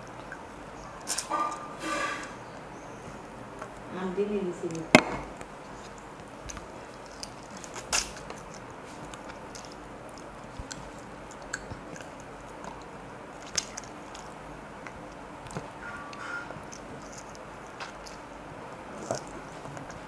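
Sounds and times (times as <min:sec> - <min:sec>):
person chewing: 0:00.0 - 0:02.4, 0:05.6 - 0:20.0.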